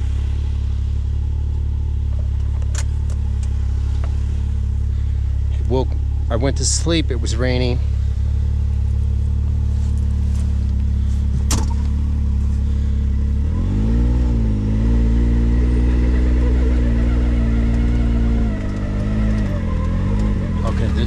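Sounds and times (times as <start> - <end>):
engine droning and speeding up: 0.0 - 21.0.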